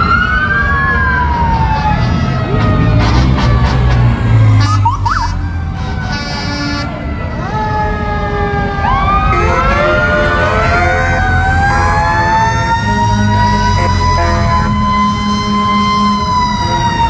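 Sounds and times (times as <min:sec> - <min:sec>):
low rumble of vehicles: 0:00.0 - 0:17.0
siren chirps: 0:00.0 - 0:17.0
sirens sliding in pitch: 0:00.0 - 0:17.0.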